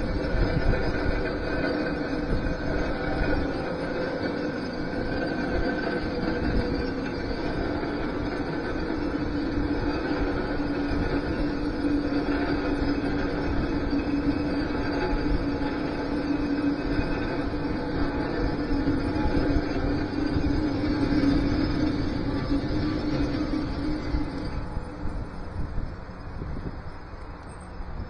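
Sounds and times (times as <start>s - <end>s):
held squealing tone: 0.0s - 26.4s
machine grinding steel: 0.0s - 26.6s.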